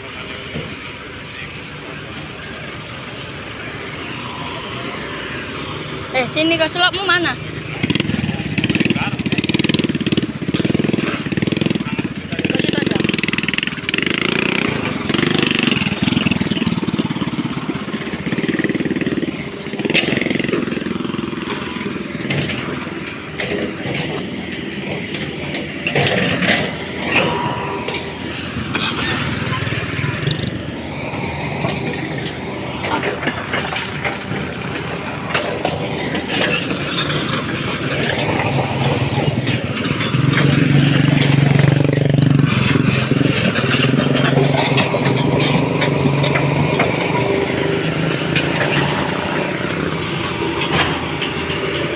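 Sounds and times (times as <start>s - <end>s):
excavator diesel engine running: 0.0s - 51.9s
high hydraulic whine: 0.0s - 51.9s
metallic clanks and knocks: 7.8s - 51.9s.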